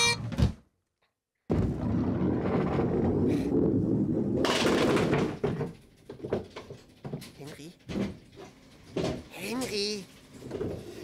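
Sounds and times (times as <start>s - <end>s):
ball rolling down alley rumble: 1.4s - 11.0s.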